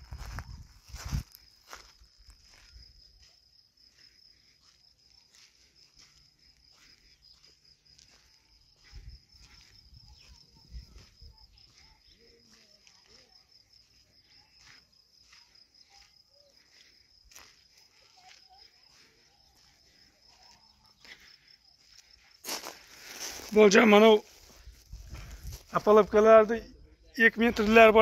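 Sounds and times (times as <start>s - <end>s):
crunching footsteps: 0.0s - 26.5s, 27.3s - 28.0s
high insect trill: 0.0s - 28.0s.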